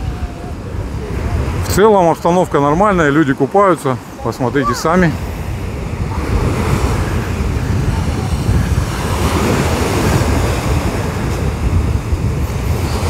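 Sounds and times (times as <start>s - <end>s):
surf breaking on a sandy beach: 0.0s - 13.0s
wind buffeting the microphone: 0.0s - 13.0s.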